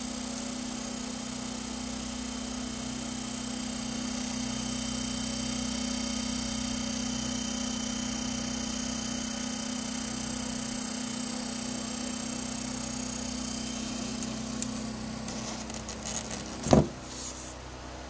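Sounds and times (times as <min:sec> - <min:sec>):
egg incubator humming and hissing: 0:00.0 - 0:18.0.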